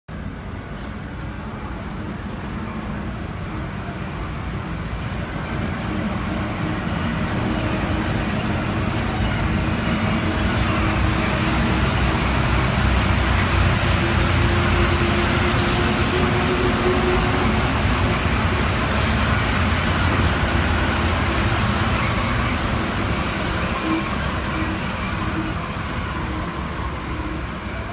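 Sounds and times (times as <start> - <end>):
train rumble and hiss: 0.1 - 27.9.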